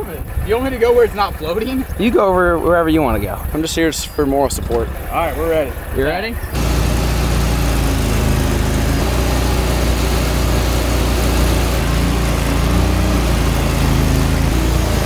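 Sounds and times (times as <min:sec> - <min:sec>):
outboard motor humming: 0:00.0 - 0:15.0.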